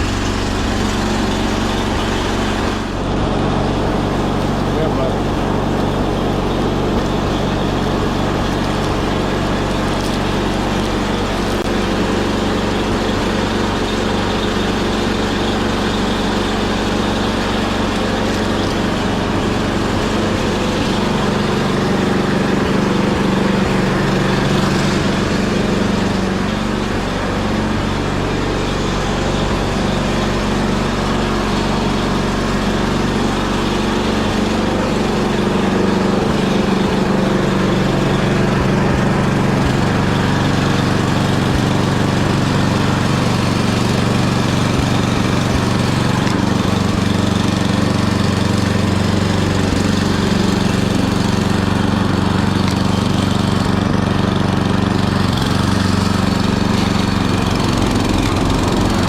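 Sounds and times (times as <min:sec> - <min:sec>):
snow blower engine running: 0:00.0 - 0:59.0.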